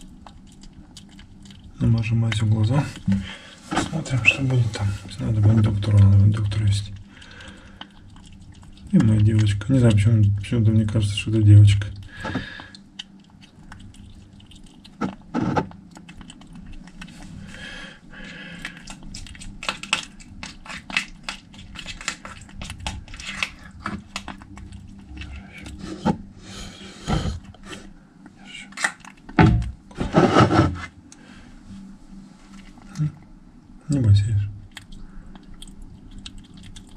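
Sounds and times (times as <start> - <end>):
kitten chewing wet food: 0.0 - 28.0, 28.8 - 29.9, 34.6 - 36.9.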